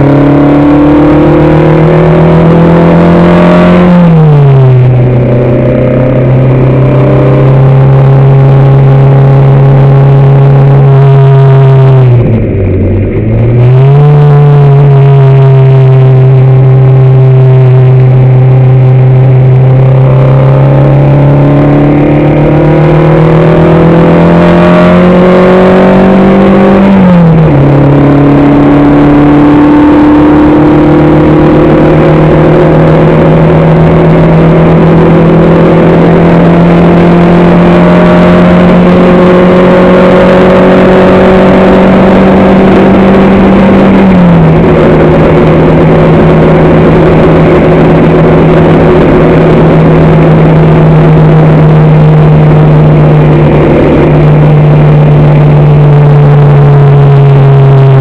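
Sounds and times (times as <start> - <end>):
race car engine under load: 0.0 - 58.0.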